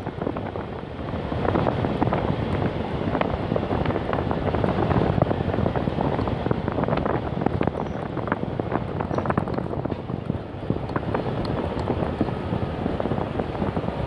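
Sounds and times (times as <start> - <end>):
vehicle driving on road: 0.0 - 14.0
wind buffeting microphone: 0.0 - 14.0.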